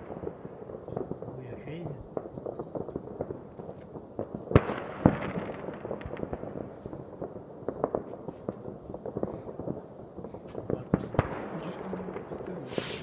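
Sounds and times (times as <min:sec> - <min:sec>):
firework crackling: 0:00.0 - 0:13.0
fireworks and firecrackers banging: 0:00.0 - 0:13.0.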